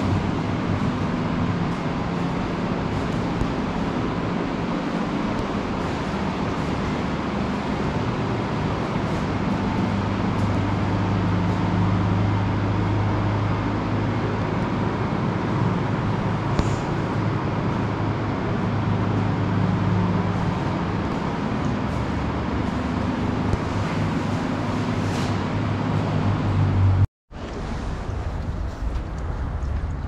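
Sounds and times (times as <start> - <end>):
rushing background noise: 0.0 - 30.0
vehicle motor humming: 0.0 - 30.0.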